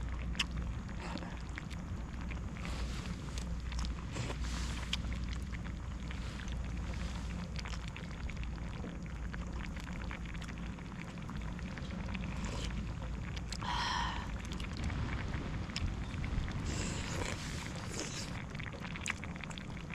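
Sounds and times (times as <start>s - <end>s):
campfire crackling and popping: 0.0s - 19.9s
steady low rumble: 0.0s - 19.9s.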